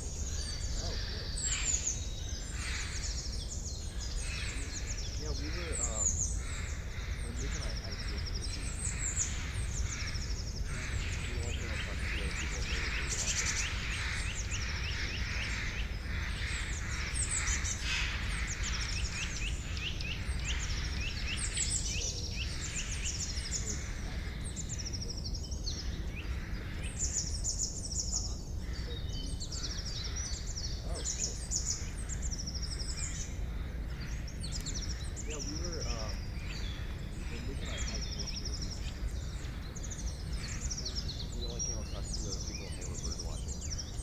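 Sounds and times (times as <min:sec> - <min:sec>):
songbirds chirping and singing: 0:00.0 - 0:44.0.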